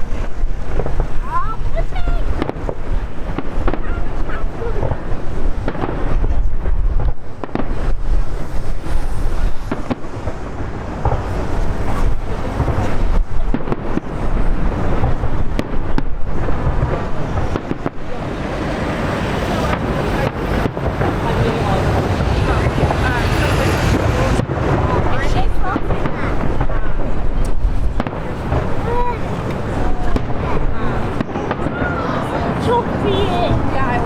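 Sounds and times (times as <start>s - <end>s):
distant fireworks bangs: 0.0s - 34.0s
wind buffeting microphone: 0.0s - 34.0s.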